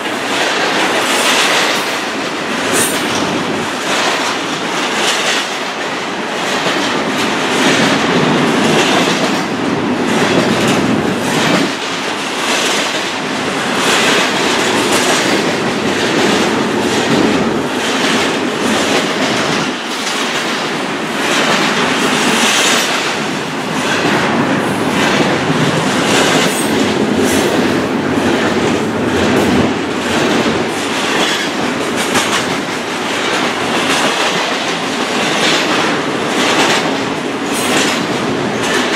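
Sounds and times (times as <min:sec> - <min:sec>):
freight train wheels on rails: 0:00.0 - 0:38.9
wheels clacking over rail joints: 0:00.0 - 0:38.9.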